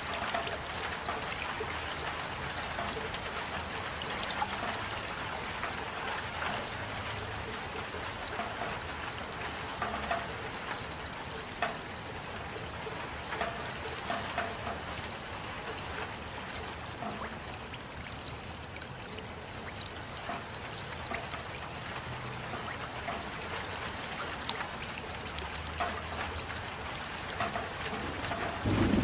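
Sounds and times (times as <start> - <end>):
rain pattering: 0.0 - 29.0
water trickling: 0.0 - 29.0.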